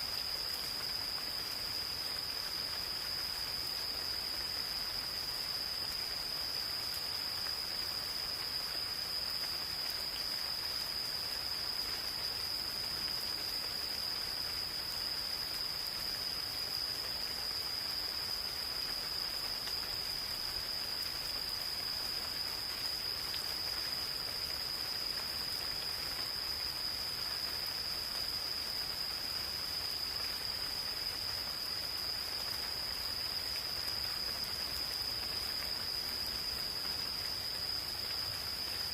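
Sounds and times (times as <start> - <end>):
gentle rain falling: 0.0 - 38.9
insects trilling: 0.0 - 38.9.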